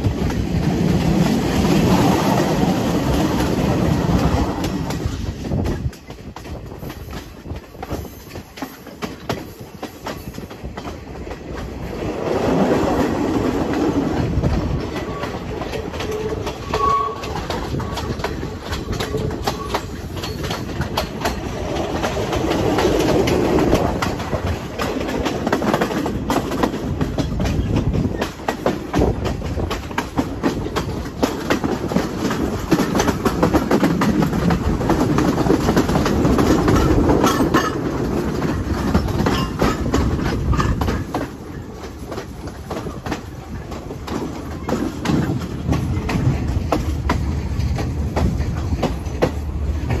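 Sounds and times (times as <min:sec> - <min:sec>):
train wheels rumbling on rails: 0:00.0 - 0:50.0
wheels clicking over rail joints: 0:00.0 - 0:50.0.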